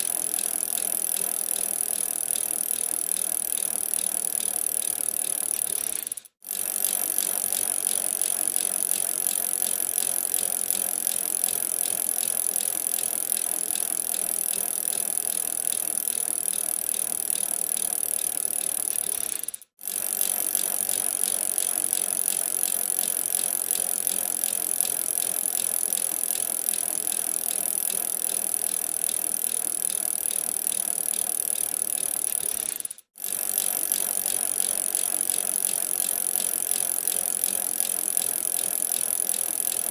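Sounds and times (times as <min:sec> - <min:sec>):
bicycle tyres and drivetrain whirring: 0:00.0 - 0:39.9.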